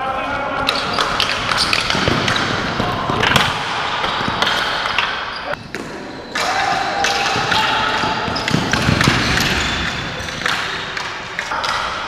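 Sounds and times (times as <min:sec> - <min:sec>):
players' voices: 0:00.0 - 0:12.0
sticks and ball clacking: 0:00.6 - 0:12.0.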